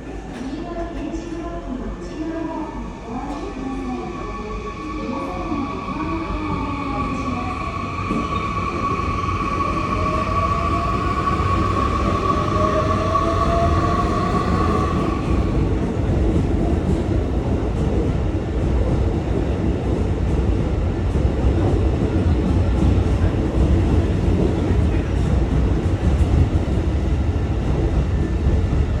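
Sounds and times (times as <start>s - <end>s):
train wheels rumbling: 2.8s - 29.0s.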